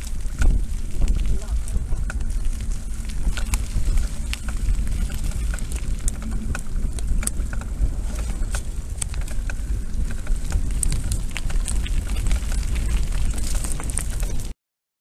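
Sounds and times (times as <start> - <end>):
bike rattling over bumps: 0.0 - 14.5
wind buffeting microphone: 0.0 - 14.5
tyres crackling on gravel: 0.0 - 14.6.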